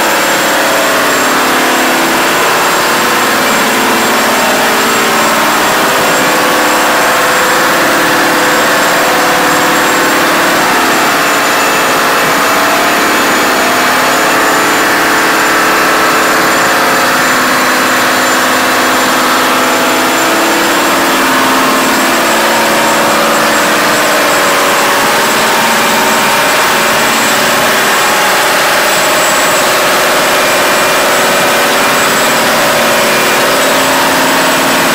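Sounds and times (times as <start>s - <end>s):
diesel engines running: 0.0s - 34.9s
thin high whine: 0.0s - 34.9s.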